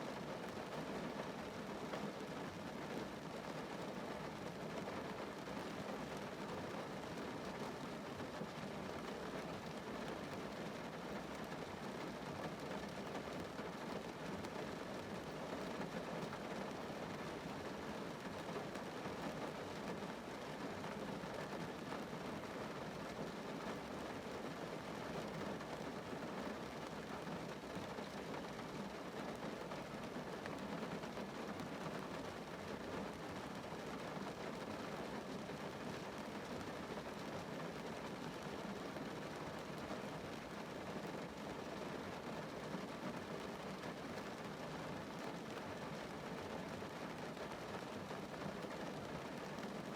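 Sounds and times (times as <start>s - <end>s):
rain on car roof: 0.0s - 49.9s.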